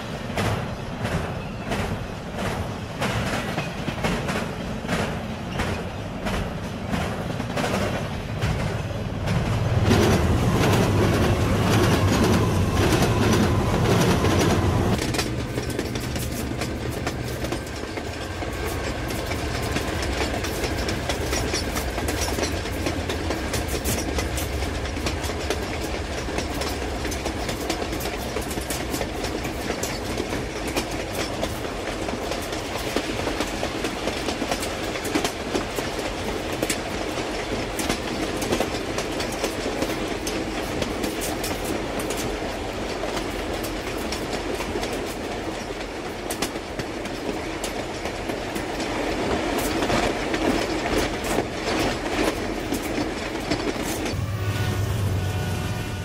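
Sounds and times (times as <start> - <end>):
train wheels clicking over rail joints: 0.0 - 54.2.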